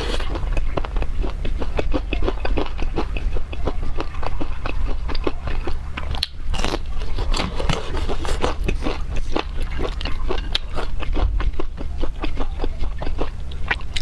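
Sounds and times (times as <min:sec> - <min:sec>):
crisp chewing crunches: 0:00.0 - 0:14.0.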